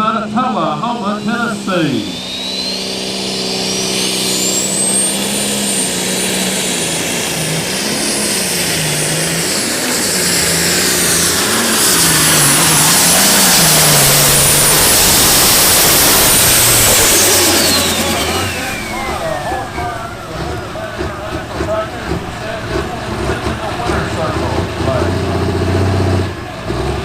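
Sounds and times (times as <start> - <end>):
tractor engine wavering: 0.0 - 27.0
turbocharger whine: 0.0 - 27.0.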